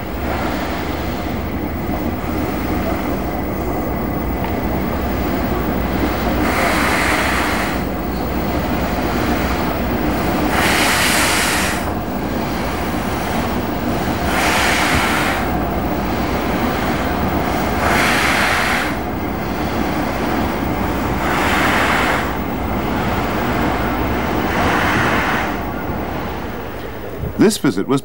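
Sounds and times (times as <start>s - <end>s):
steam hissing: 0.0s - 27.4s
locomotive low rumble: 0.0s - 28.0s.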